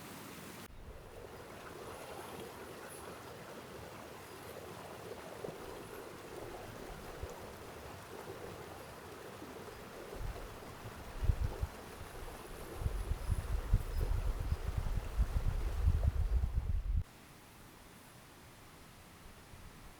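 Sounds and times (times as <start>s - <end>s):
forest stream babbling: 0.0s - 16.6s.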